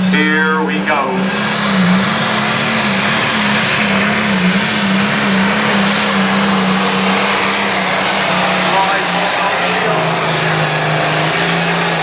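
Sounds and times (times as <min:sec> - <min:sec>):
diesel tractor engine at full load: 0:00.0 - 0:12.0.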